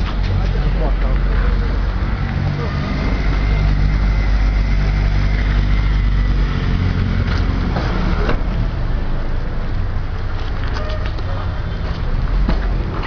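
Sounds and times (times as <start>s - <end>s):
street noise rumble: 0.0s - 13.0s.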